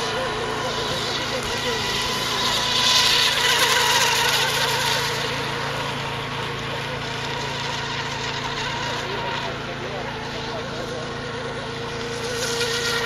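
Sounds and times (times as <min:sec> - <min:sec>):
model racing boats buzzing: 0:00.0 - 0:13.0.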